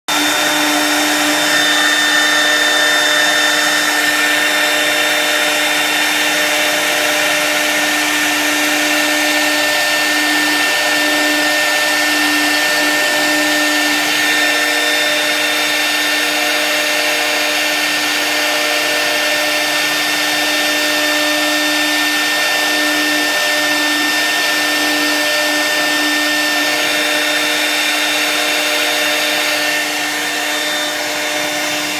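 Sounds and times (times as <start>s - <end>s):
router spindle whining: 0.0s - 31.9s.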